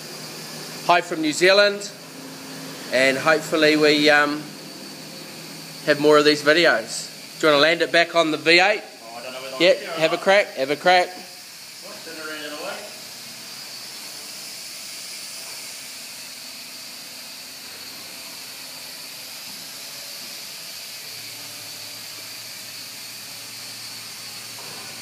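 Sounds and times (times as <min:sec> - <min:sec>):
quadcopter propellers whirring: 0:00.0 - 0:25.0.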